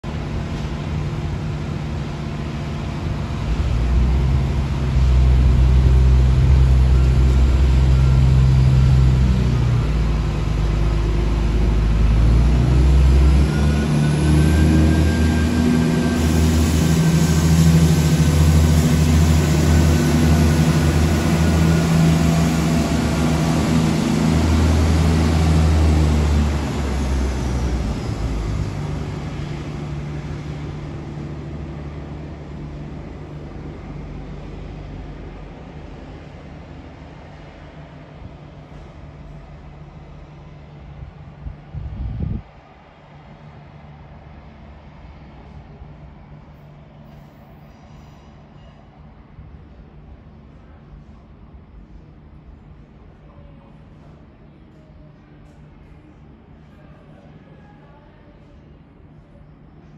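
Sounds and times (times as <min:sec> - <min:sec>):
diesel train engine accelerating: 0:00.0 - 0:59.9.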